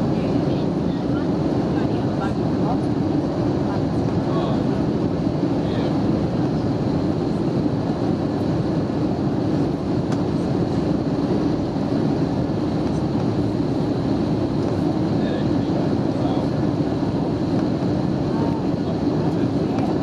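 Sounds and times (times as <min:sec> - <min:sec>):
airplane cabin low rumble: 0:00.0 - 0:20.0.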